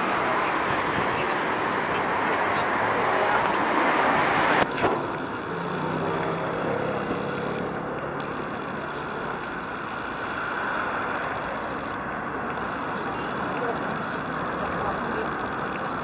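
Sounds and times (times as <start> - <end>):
cars passing: 0.0 - 16.0
vehicle engine humming low: 0.0 - 16.0.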